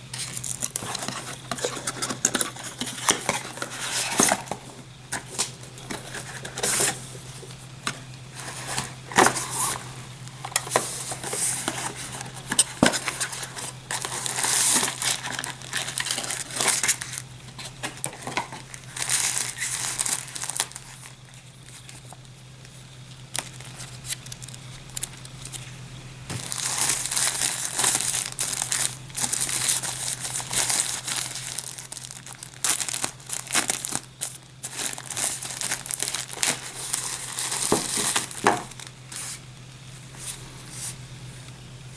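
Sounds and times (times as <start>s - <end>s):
plastic wrap crinkling: 0.0s - 7.0s, 8.3s - 22.3s, 23.2s - 39.5s.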